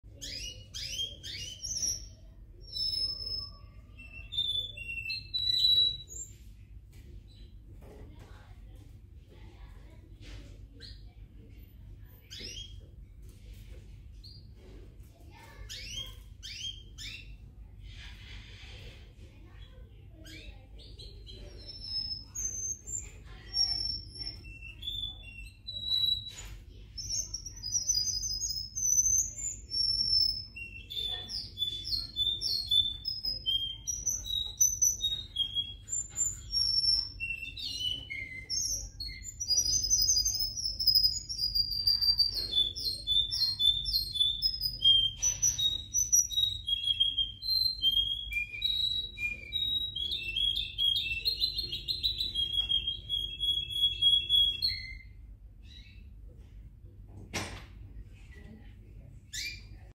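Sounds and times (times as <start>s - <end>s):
canary singing trills: 0.0s - 7.7s, 12.0s - 13.0s, 15.2s - 56.3s, 59.3s - 59.9s.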